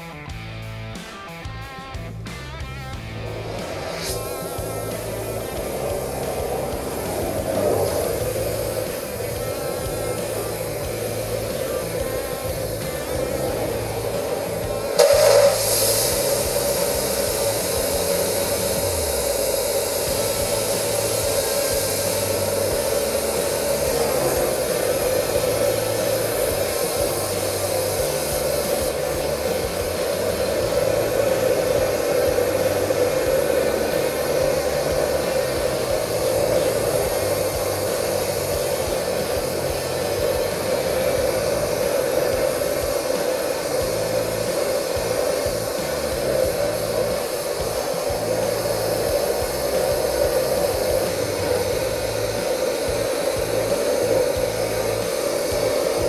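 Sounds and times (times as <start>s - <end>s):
gas torch flame hissing: 0.0s - 56.0s.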